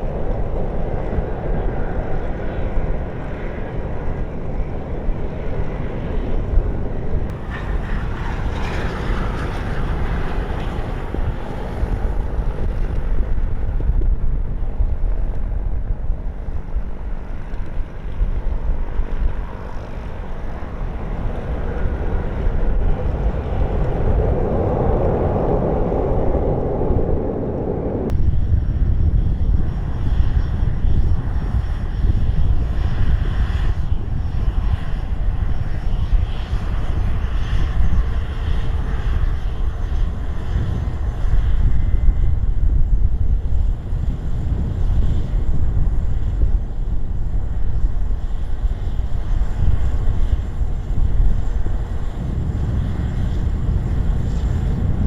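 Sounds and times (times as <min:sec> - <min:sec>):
aircraft engine noise: 0:00.0 - 0:55.0
wind rumbling on microphone: 0:00.0 - 0:55.0.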